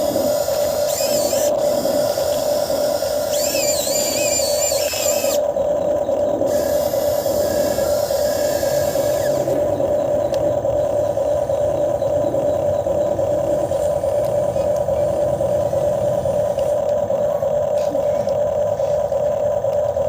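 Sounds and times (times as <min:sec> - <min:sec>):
electric motors droning: 0:00.0 - 0:20.0.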